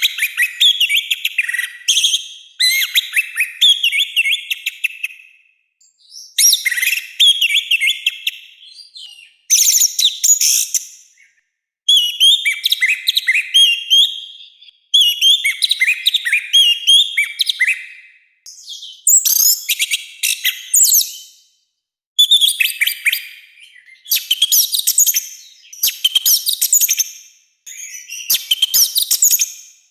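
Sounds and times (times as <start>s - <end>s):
thrush singing whistled song: 0.0s - 29.9s.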